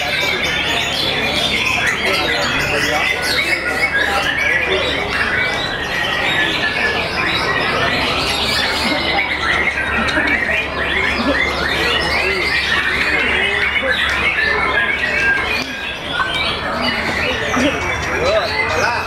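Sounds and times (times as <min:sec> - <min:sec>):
chorus of songbirds: 0:00.0 - 0:19.0.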